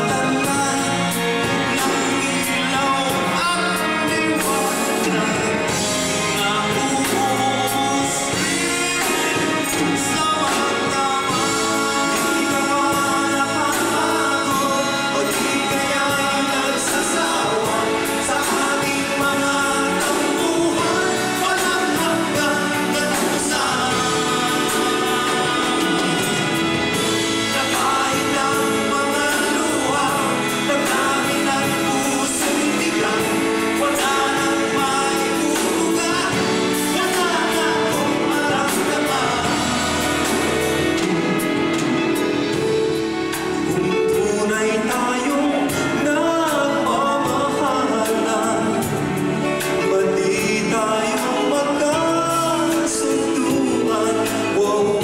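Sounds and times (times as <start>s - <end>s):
male vocal trio singing: 0.0s - 41.3s, 43.6s - 55.0s
drums: 0.0s - 55.0s
keyboards: 0.0s - 55.0s.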